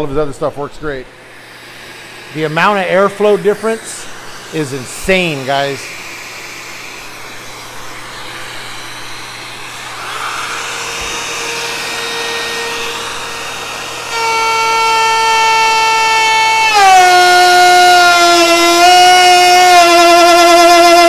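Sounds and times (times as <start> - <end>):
shop vacuum hissing: 0.0 - 21.0
router whining: 1.1 - 21.0
router bit cutting wood: 1.2 - 21.0.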